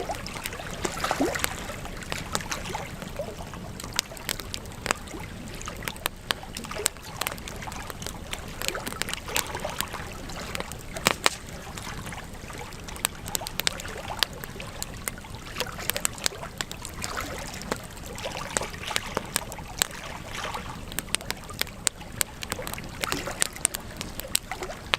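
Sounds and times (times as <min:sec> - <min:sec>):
fire crackling and popping: 0:00.0 - 0:24.9.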